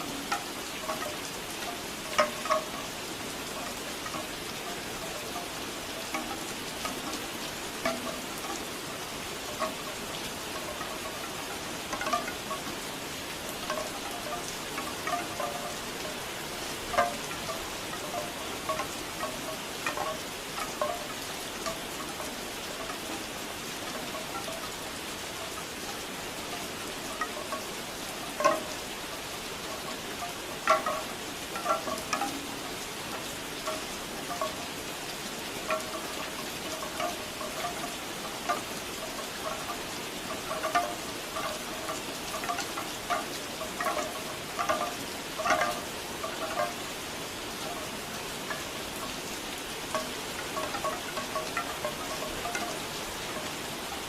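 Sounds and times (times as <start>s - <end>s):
bamboo wind chimes clacking: 0.0s - 54.0s
steady rain: 0.0s - 54.0s.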